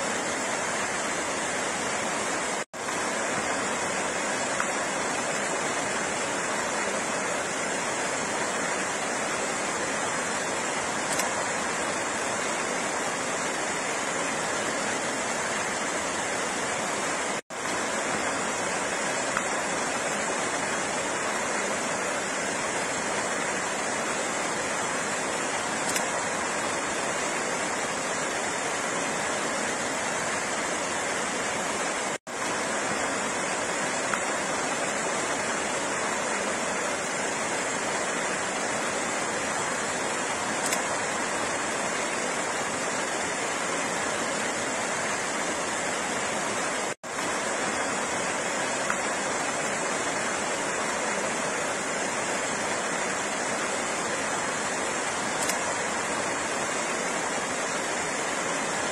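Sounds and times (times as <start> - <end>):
flowing water: 0.0 - 58.9.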